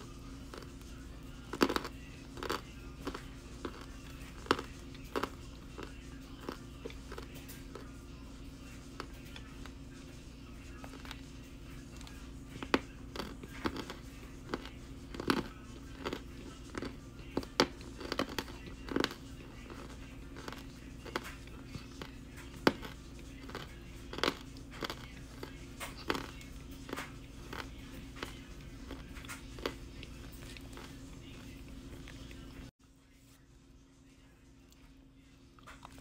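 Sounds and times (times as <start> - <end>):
crunchy chewing: 0.0 - 32.7, 34.6 - 36.0
steady low hum: 0.0 - 36.0.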